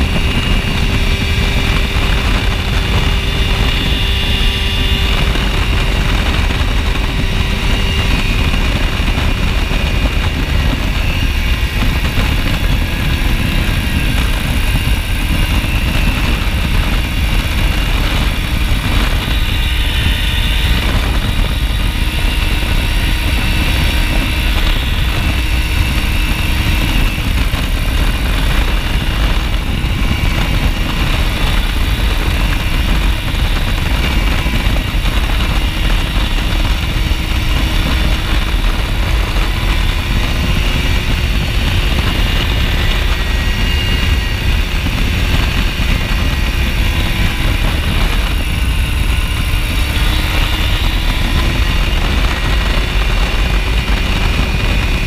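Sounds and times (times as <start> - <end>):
aircraft engine and propeller: 0.0 - 55.0
wind rush on microphone: 0.0 - 55.0.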